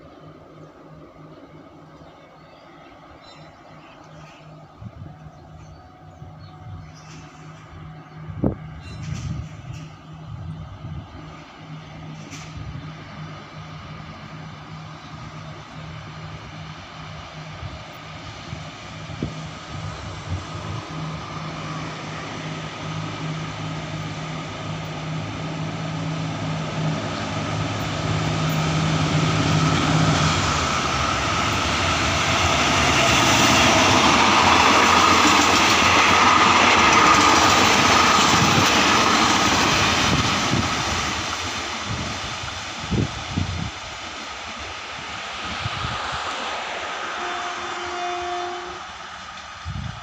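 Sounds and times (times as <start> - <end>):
locomotive engine hum: 0.0 - 50.0
train wheels rumbling on rails: 0.0 - 50.0.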